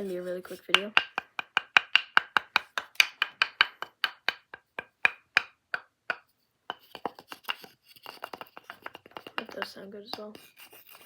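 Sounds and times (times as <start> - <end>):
tapping on hollow wood: 0.6 - 10.4.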